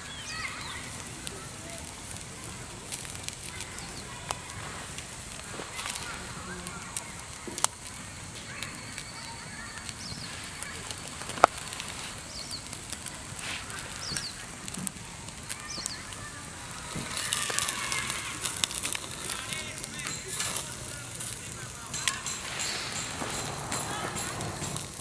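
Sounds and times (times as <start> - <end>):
campfire crackling: 0.0 - 25.0
fire popping: 0.0 - 25.0.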